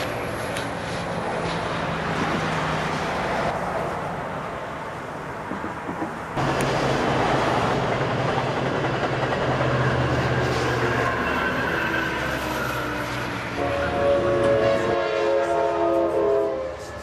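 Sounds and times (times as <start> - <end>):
highway traffic passing: 0.0 - 17.0
train rolling past: 0.0 - 17.0.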